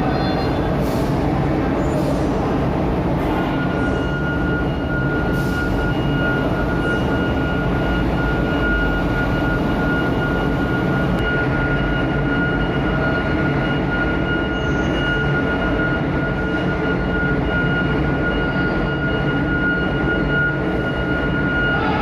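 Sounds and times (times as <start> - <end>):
diesel truck engines rumbling: 0.0 - 22.0
high-pitched whine: 1.4 - 22.0.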